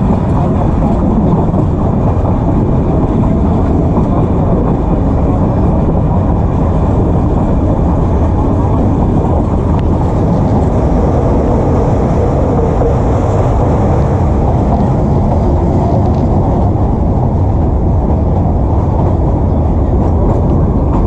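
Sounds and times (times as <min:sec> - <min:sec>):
train carriage rumbling: 0:00.0 - 0:21.0.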